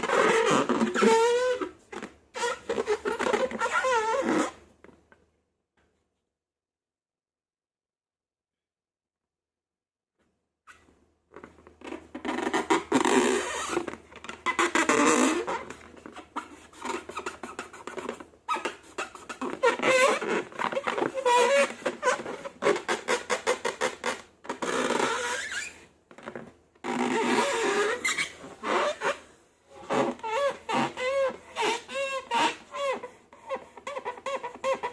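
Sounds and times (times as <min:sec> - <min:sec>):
rubbery balloon squeaks: 0:00.0 - 0:04.6, 0:10.7 - 0:34.9.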